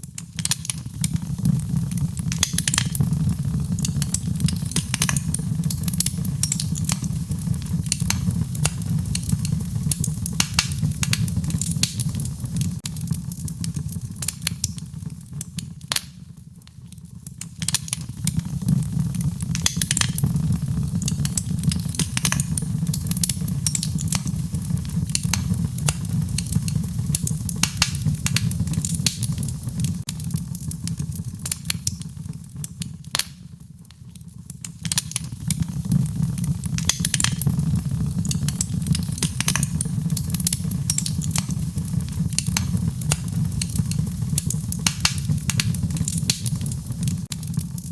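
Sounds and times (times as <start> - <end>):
fire crackling and popping: 0.0 - 47.9
low rumble of burning: 0.0 - 47.9.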